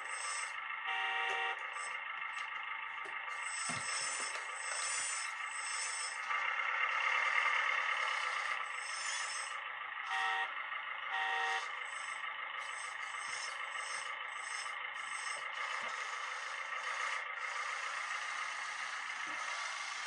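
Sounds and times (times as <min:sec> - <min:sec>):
rc machinery whirring: 0:00.0 - 0:02.6, 0:03.2 - 0:20.0.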